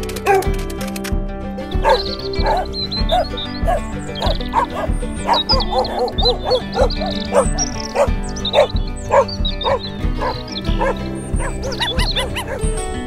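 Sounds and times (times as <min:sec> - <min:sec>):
background music with steady beat: 0:00.0 - 0:13.0
puppy barks and yips: 0:01.8 - 0:12.7.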